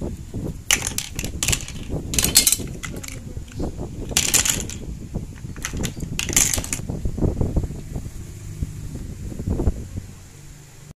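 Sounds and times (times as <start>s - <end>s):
handling rumble: 0.0s - 10.3s.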